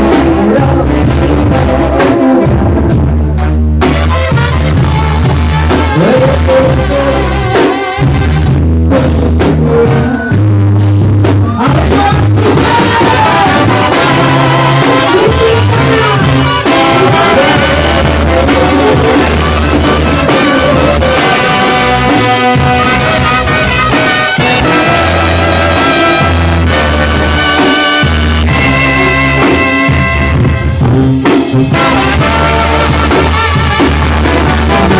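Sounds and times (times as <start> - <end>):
brass music with drums and bass: 0.0 - 34.9.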